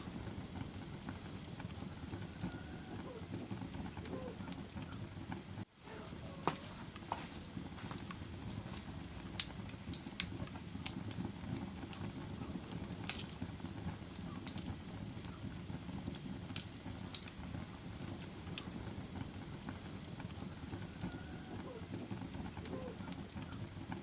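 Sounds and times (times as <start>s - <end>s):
fire crackles and pops: 0.0s - 24.0s
fire rumbling: 0.0s - 24.0s.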